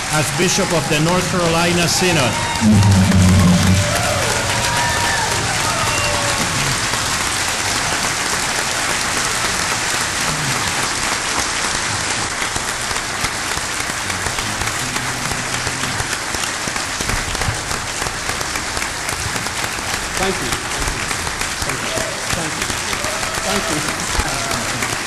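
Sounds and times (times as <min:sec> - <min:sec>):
large audience applauding: 0:00.0 - 0:25.0.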